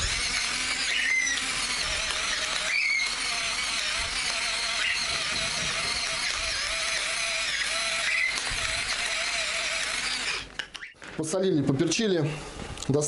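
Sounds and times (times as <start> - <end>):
pepper mill motor whirring: 0.0 - 11.0.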